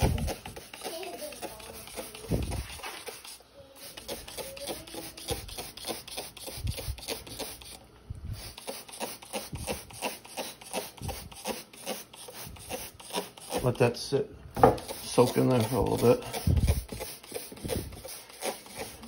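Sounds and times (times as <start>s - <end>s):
spray bottle spritzing: 0.0s - 7.8s, 8.4s - 13.7s, 14.8s - 19.0s.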